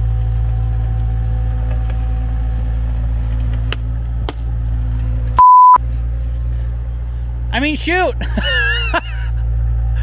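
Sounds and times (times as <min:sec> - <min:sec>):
excavator engine running: 0:00.0 - 0:10.0.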